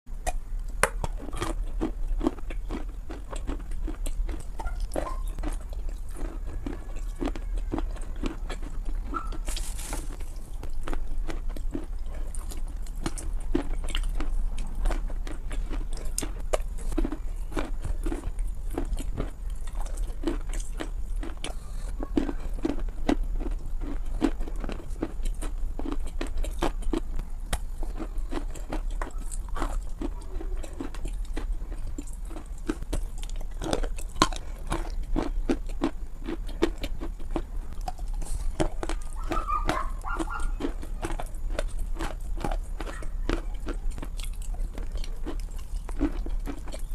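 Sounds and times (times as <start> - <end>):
steady low hum: 0.1 - 46.9
chalk crunching between teeth: 0.2 - 46.9.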